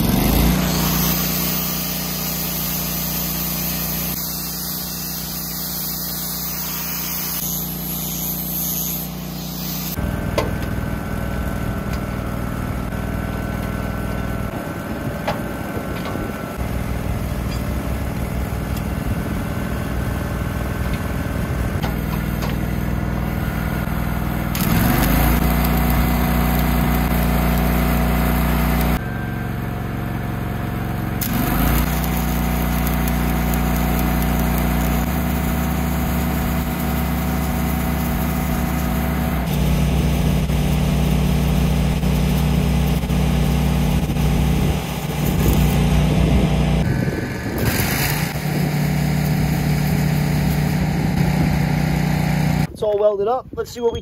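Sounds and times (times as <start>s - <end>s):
welding arc crackling: 0.0s - 15.0s, 16.3s - 29.0s, 31.2s - 52.7s
welder engine running: 0.0s - 52.8s.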